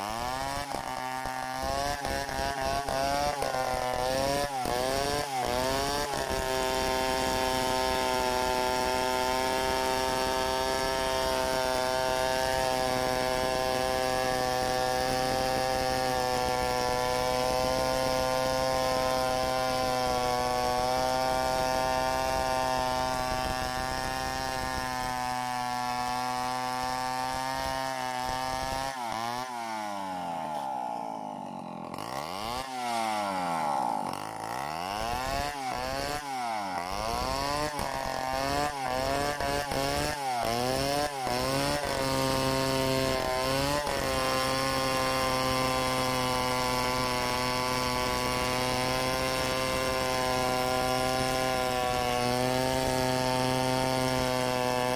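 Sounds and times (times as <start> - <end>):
chainsaw cutting a log: 0.0 - 54.9.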